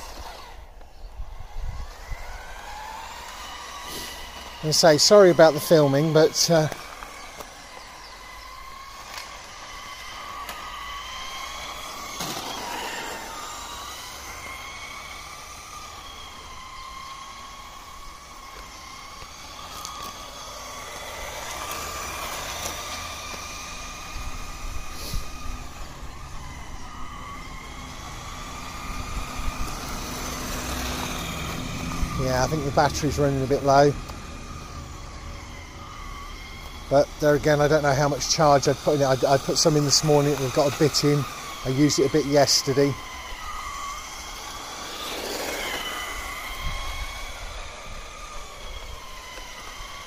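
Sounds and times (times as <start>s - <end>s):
rc car electric motor whining: 0.0s - 50.0s.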